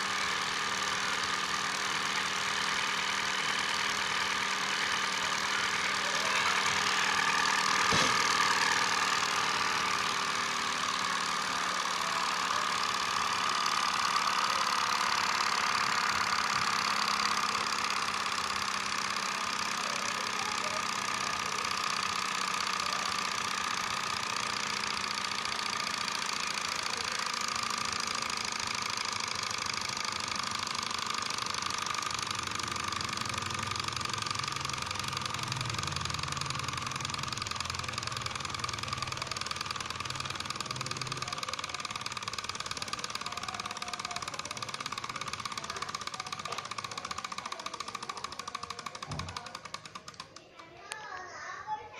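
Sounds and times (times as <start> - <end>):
model engine mechanical clatter: 0.0 - 51.3.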